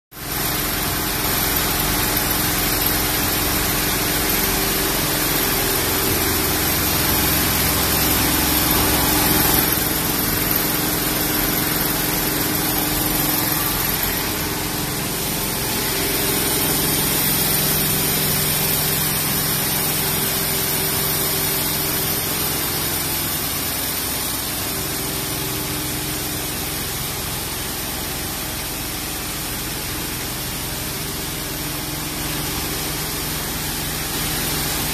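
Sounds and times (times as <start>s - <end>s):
quilting machine humming: 0.2s - 34.9s
factory machines running: 0.3s - 34.9s.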